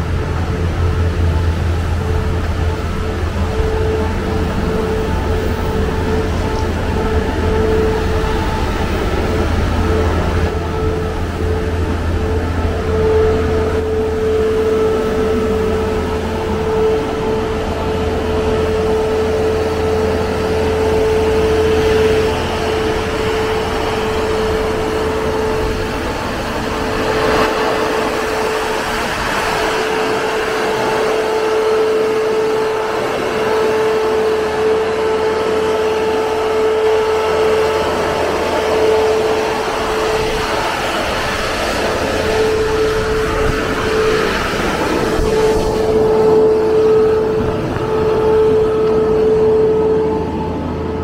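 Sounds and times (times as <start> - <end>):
low rumble: 0.0 - 33.3, 36.8 - 51.0
concrete pump mechanical drone: 0.0 - 51.0.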